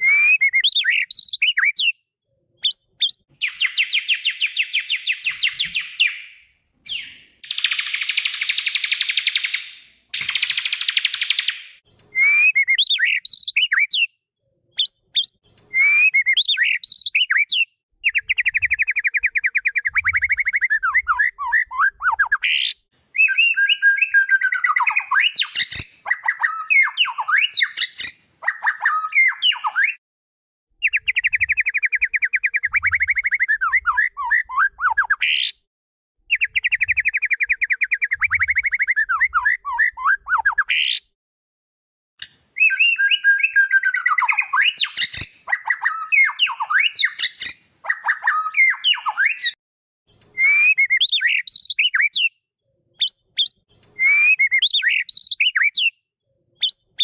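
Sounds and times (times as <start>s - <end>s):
songbird singing trills and whistles: 0.0s - 14.2s, 14.8s - 30.0s, 30.8s - 35.6s, 36.3s - 41.1s, 42.2s - 49.6s, 50.2s - 52.4s, 53.0s - 57.0s.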